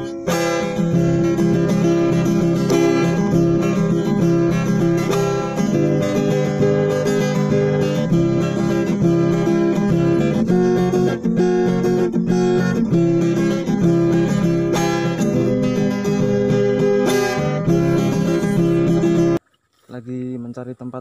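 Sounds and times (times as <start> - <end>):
strummed acoustic guitar music: 0.0 - 19.4.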